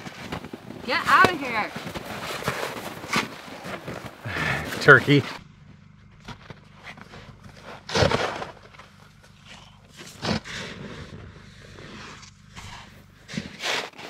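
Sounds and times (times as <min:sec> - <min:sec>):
snow shovel crunching scrapes: 0:00.0 - 0:05.4, 0:06.2 - 0:14.0.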